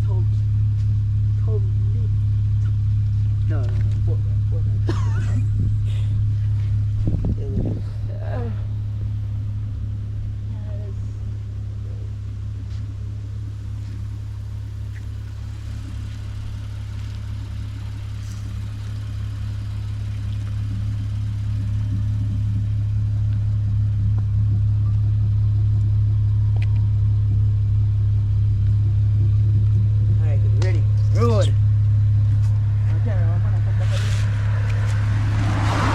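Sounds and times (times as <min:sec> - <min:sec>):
car exhaust droning: 0:00.0 - 0:35.9.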